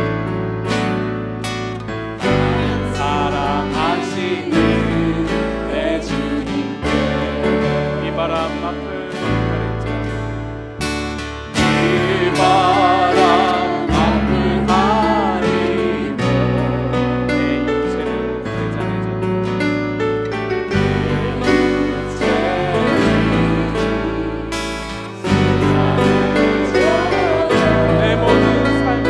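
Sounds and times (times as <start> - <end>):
strummed acoustic guitar: 0.0 - 29.0
man singing worship song: 2.2 - 9.9, 11.6 - 18.9, 20.8 - 29.0.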